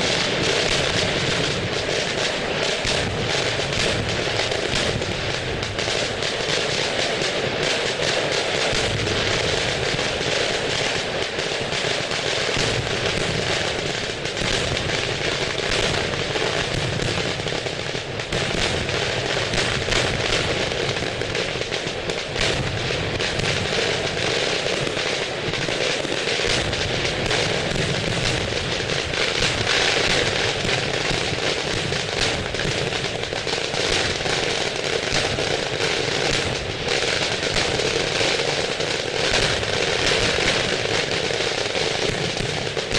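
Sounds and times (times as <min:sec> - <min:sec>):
fireworks crackling barrage: 0:00.0 - 0:42.9.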